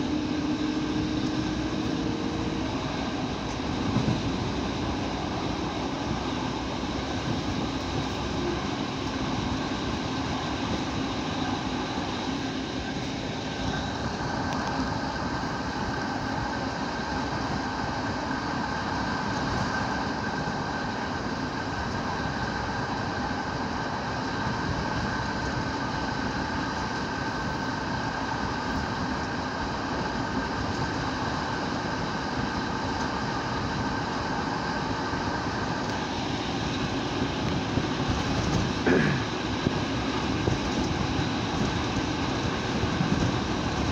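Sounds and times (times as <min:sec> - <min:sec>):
diesel train engine drone: 0:00.0 - 0:43.9
train wheels on rails: 0:00.0 - 0:43.9.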